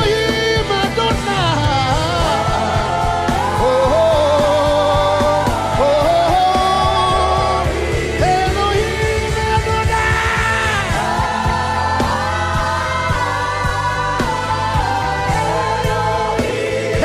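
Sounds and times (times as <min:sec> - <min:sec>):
voices singing: 0:00.0 - 0:17.0
worship band playing: 0:00.0 - 0:17.0.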